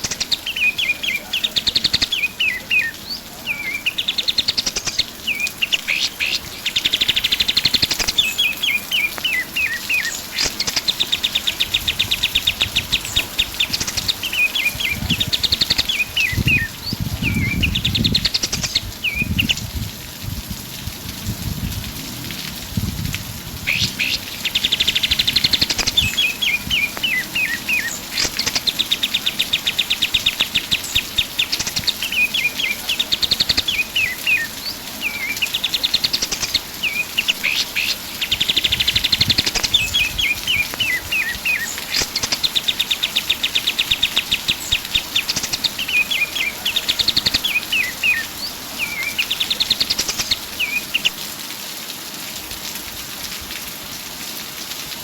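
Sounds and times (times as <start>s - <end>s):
songbird singing trills and chirps: 0.0s - 19.8s, 23.6s - 51.2s.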